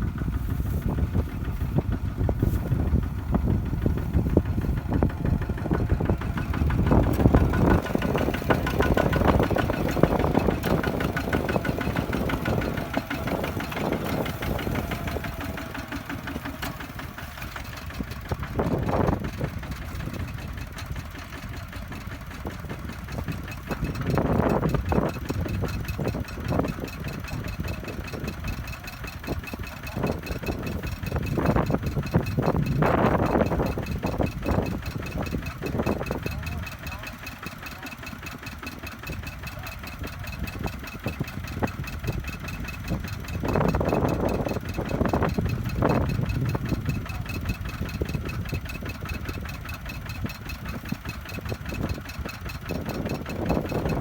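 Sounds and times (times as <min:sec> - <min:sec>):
diesel tractor engines knocking: 0:00.0 - 0:54.0.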